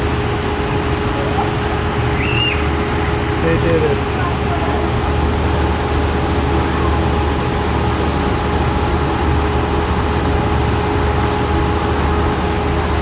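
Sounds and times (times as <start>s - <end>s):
faint pump hum: 0.0s - 13.0s
rushing water: 0.0s - 13.0s.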